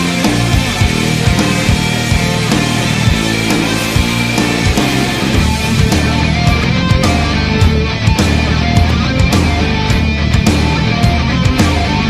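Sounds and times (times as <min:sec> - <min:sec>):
distorted guitar: 0:00.0 - 0:12.0
heavy rock music: 0:00.0 - 0:12.0
steady drum beat: 0:00.0 - 0:12.0.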